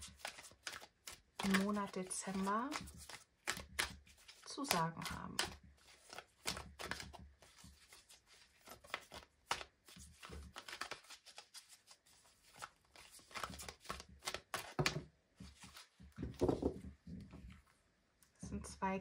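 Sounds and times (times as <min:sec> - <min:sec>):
cards being shuffled: 0:00.0 - 0:17.5.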